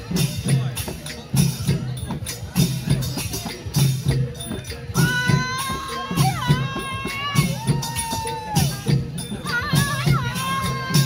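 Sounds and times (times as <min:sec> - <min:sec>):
dance music with drum beat: 0:00.0 - 0:11.0
jingling tambourine-like percussion: 0:00.0 - 0:11.0.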